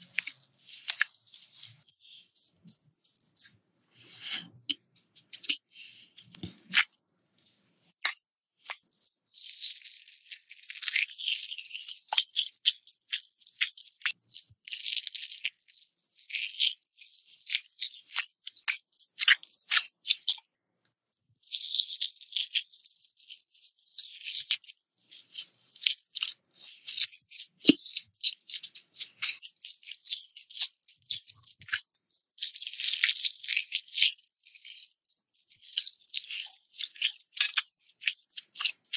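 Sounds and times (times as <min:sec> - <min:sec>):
crunching and chewing crisp food: 0:00.0 - 0:38.9.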